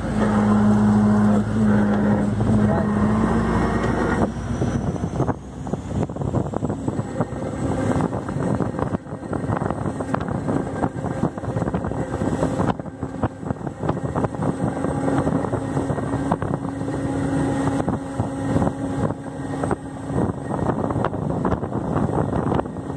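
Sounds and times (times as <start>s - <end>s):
motorboat engine hum: 0.0s - 22.9s
water churning: 0.0s - 22.9s
wind buffeting microphone: 0.0s - 22.9s.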